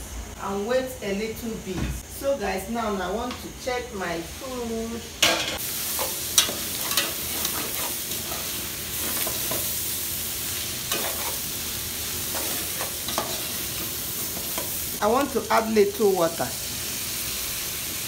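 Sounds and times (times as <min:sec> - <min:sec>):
food sizzling: 0:02.2 - 0:18.0.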